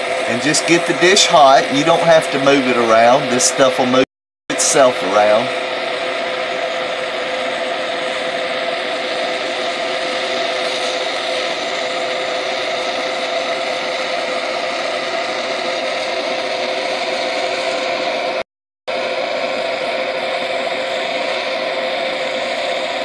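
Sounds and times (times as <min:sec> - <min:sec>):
torch flame rushing: 0:00.0 - 0:23.0.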